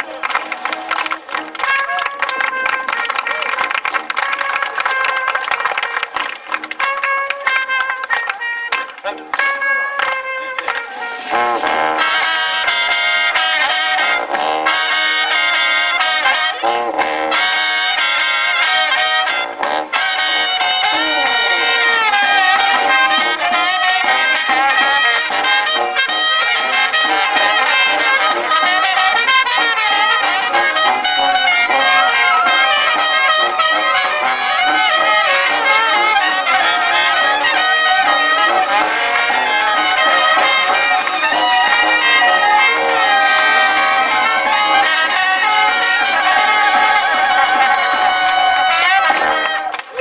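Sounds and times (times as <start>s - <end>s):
live brass band music: 0.0s - 50.0s.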